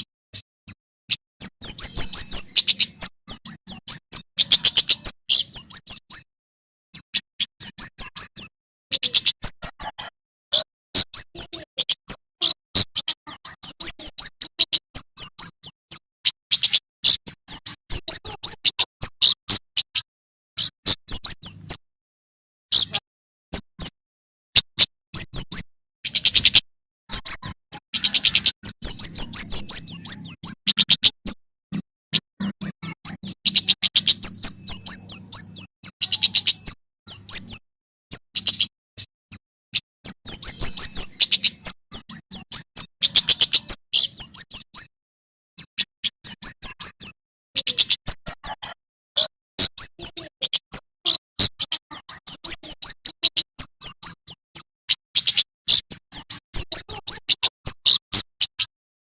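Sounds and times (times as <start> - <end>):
bird singing high chirps: 0.0 - 6.3, 6.9 - 21.8, 22.6 - 45.0, 45.6 - 58.7.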